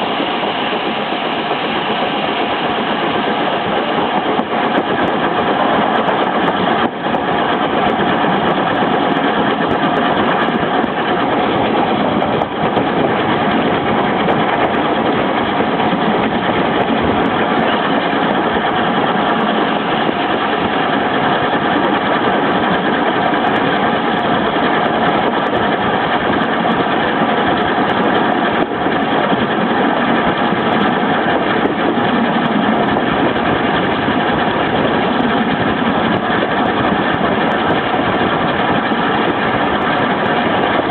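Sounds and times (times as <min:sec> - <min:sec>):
steam train rumble and hiss: 0:00.0 - 0:40.9.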